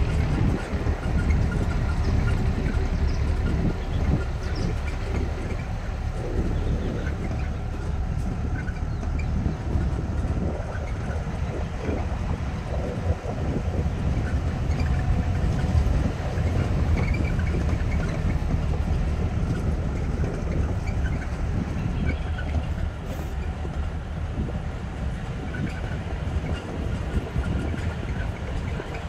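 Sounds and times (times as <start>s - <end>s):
clatter and rattle from bumps: 0.0s - 29.0s
vehicle rumble on dirt track: 0.0s - 29.0s.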